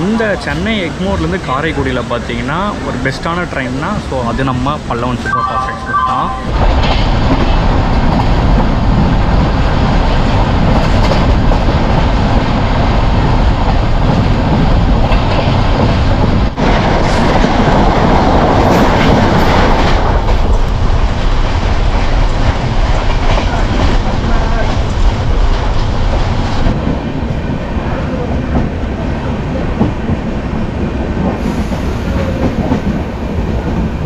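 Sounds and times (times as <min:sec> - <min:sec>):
train passing alongside: 0:00.0 - 0:34.0
train wheel and rail noise: 0:00.0 - 0:34.0
clickety-clack over rail joints: 0:06.5 - 0:34.0.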